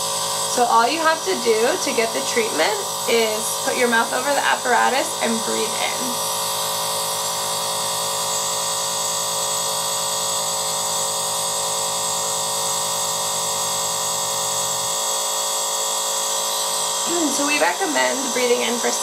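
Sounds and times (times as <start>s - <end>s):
nebulizer compressor buzzing: 0.0s - 19.0s.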